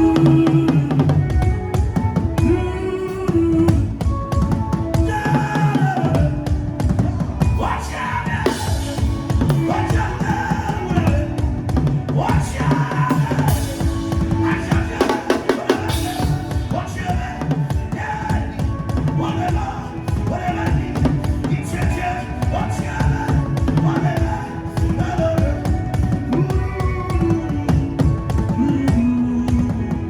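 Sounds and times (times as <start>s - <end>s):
people singing: 0.0s - 1.4s, 2.4s - 30.0s
bass line: 0.0s - 30.0s
fast drumming: 3.3s - 30.0s.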